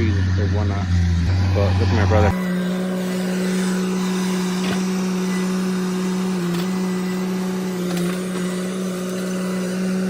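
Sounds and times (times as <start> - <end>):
chainsaw cutting wood: 1.1 - 10.0.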